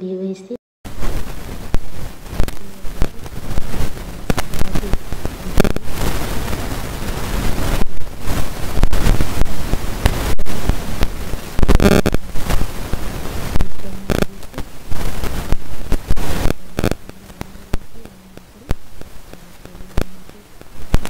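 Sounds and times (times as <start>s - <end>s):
prawns sizzling in a frying pan: 0.9s - 21.0s.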